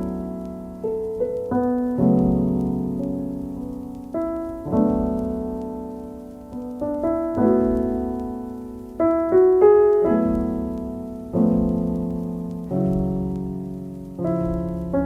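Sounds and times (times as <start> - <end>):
mellow piano chords: 0.0 - 15.0.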